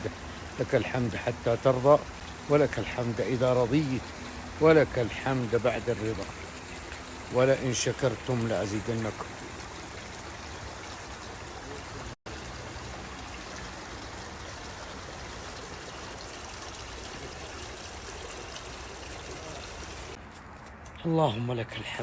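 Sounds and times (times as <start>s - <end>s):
garden fountain water trickling: 0.0s - 22.0s.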